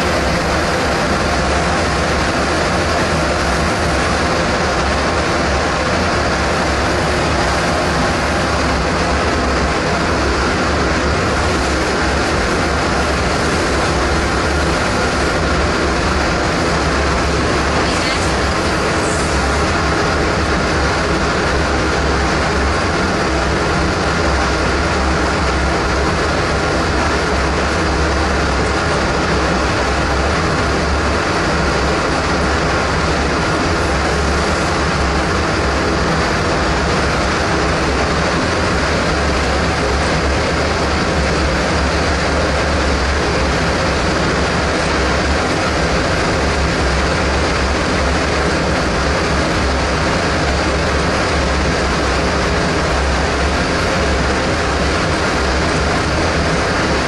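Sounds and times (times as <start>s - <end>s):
extraction fan rushing air: 0.0s - 57.0s.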